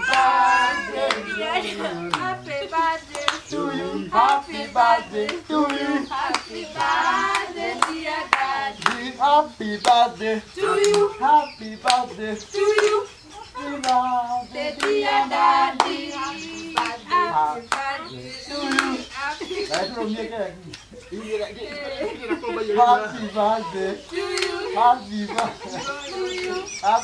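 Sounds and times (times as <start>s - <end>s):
group of people singing: 0.0s - 27.0s
rhythmic hand clapping: 0.0s - 27.0s.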